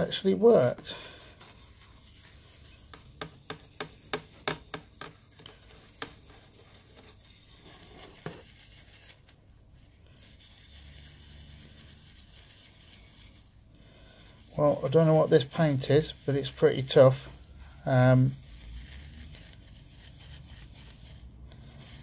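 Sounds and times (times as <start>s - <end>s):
toothbrush scrubbing plastic: 0.0s - 22.0s.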